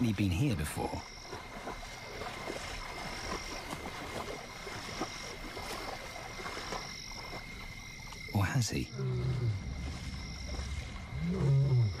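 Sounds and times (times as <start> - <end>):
frogs clicking croaks: 0.0 - 12.0.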